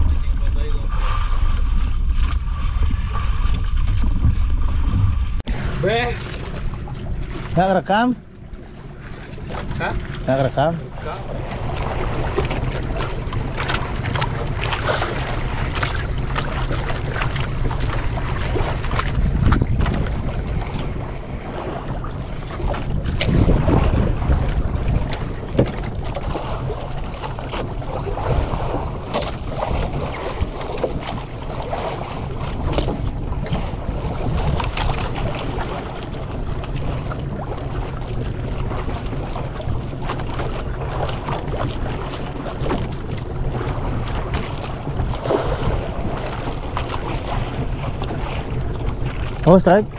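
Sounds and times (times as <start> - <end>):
wind rushing over microphone: 0.0 - 8.5, 9.2 - 49.9
low rumble of boat and water: 0.0 - 49.9.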